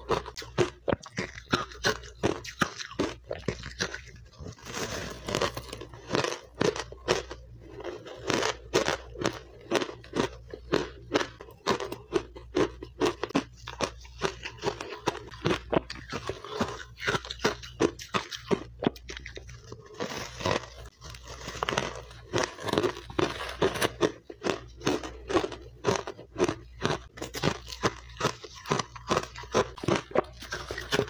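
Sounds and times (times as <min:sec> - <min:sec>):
crunching ice while chewing: 0:00.0 - 0:31.0.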